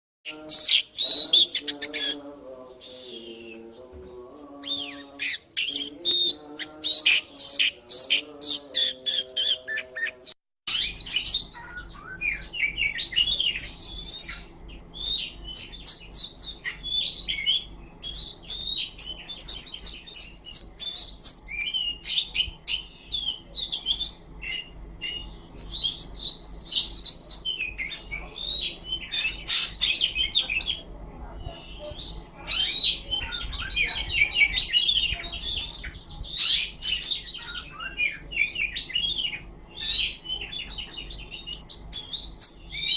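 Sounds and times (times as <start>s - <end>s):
bird singing whistles and trills: 4.6s - 30.8s, 31.7s - 42.9s.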